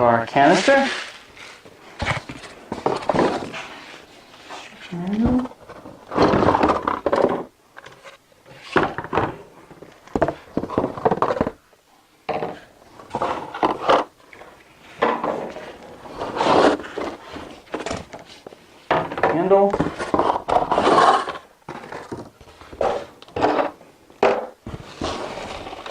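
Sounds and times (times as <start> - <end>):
cardboard and plastic rustling: 0.3 - 11.7, 12.4 - 25.9.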